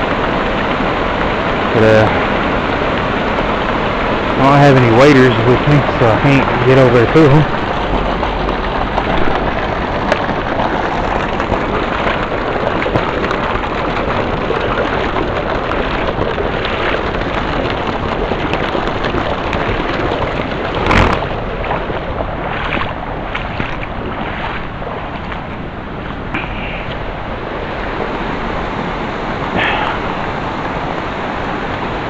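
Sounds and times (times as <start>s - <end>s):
creek water rippling: 0.0s - 32.0s.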